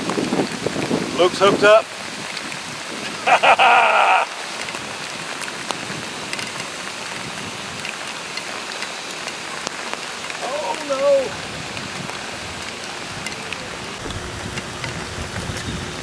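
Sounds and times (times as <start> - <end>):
splashing water hiss: 0.0 - 16.0.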